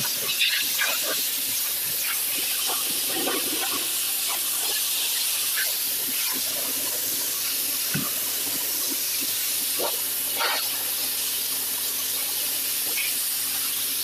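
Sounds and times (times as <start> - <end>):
pressure washer jet hissing on stone: 0.0 - 14.0.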